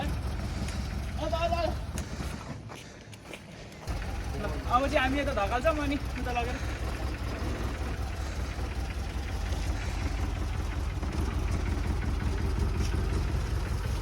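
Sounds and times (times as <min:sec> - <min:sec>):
car engine idling: 0:00.0 - 0:02.7, 0:03.6 - 0:14.0.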